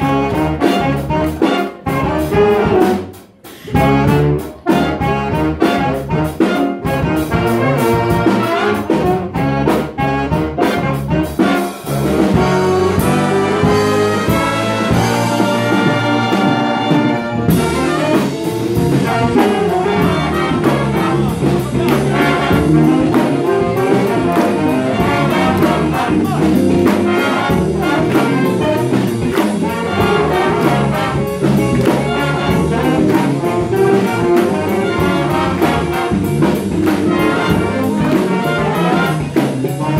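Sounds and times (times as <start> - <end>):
jazz big band playing: 0.0 - 39.9.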